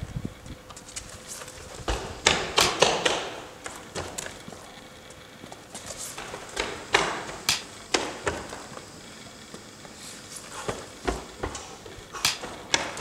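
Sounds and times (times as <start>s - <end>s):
footsteps on stone paving: 0.7s - 4.8s, 5.4s - 13.0s.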